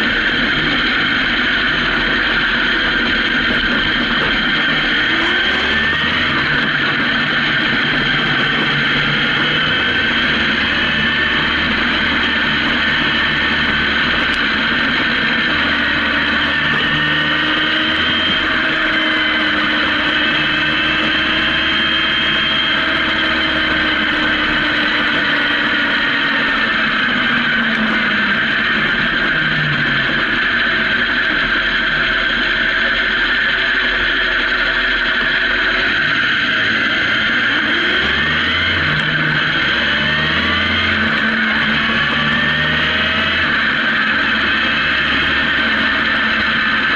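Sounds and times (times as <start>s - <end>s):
motorcycle engine running: 0.0s - 46.9s
wind noise on microphone: 0.0s - 46.9s.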